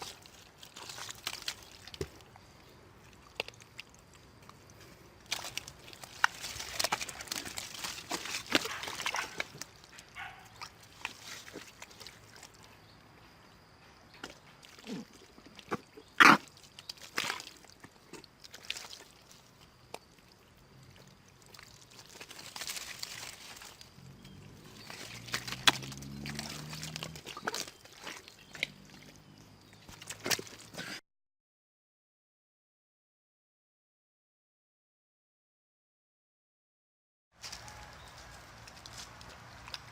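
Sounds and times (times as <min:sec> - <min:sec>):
dogs splashing through shallow water: 0:00.0 - 0:31.0, 0:37.4 - 0:39.9.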